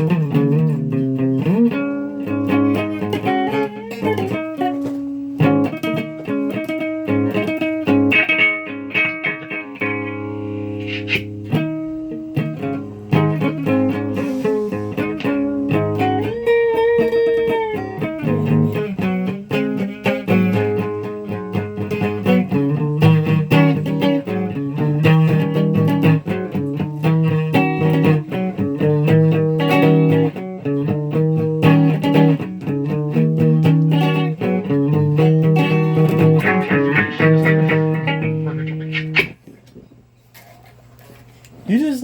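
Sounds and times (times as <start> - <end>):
electric guitar playing: 0.0 - 39.7.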